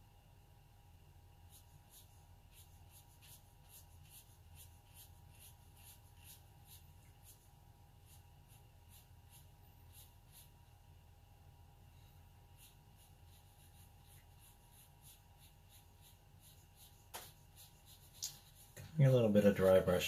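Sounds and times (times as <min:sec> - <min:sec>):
paintbrush strokes on paper: 0:01.3 - 0:20.0.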